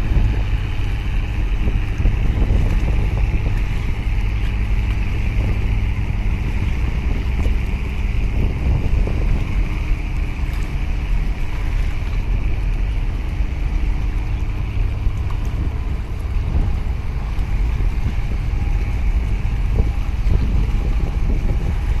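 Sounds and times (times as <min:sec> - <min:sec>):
boat engine rumbling: 0:00.0 - 0:22.0
wind buffeting microphone: 0:00.0 - 0:22.0.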